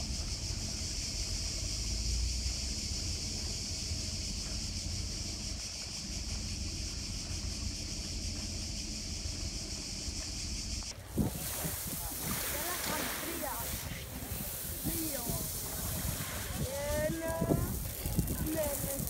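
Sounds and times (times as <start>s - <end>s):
cicadas buzzing: 0.0s - 19.0s
wind rumble on microphone: 0.0s - 19.0s.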